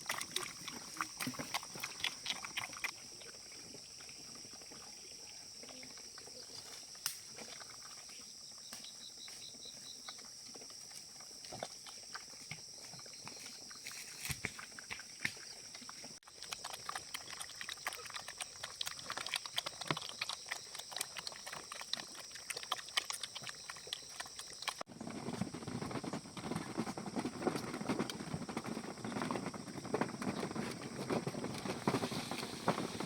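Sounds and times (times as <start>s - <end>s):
farm animals: 0.0s - 33.0s.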